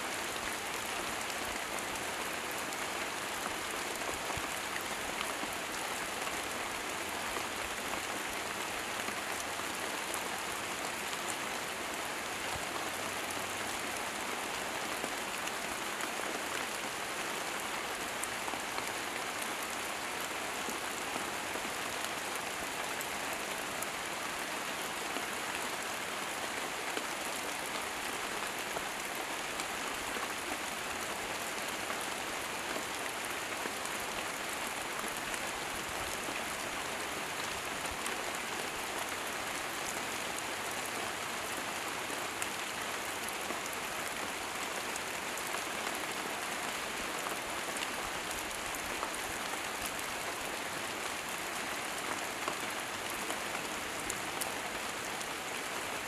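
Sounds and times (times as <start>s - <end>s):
rain falling on foliage: 0.0s - 56.0s.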